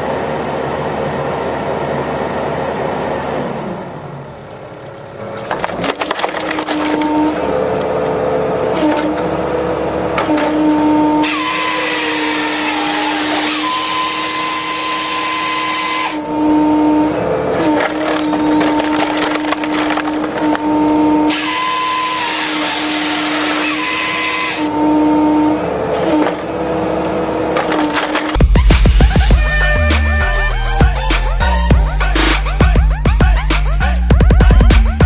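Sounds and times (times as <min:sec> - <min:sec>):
machinery humming: 0:00.0 - 0:35.0.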